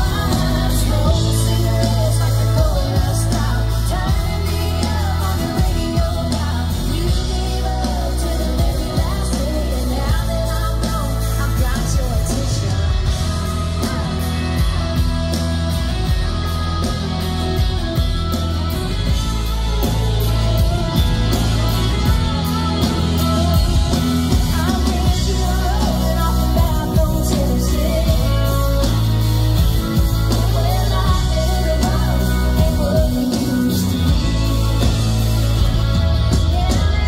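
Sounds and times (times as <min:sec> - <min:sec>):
country-rock band playing: 0:00.0 - 0:37.0
woman singing: 0:00.0 - 0:37.0.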